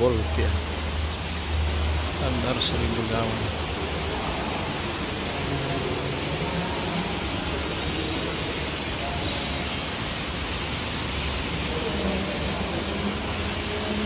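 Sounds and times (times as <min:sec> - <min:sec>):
fountain water splashing into pool: 0:00.0 - 0:14.0
faint voices: 0:02.0 - 0:14.0.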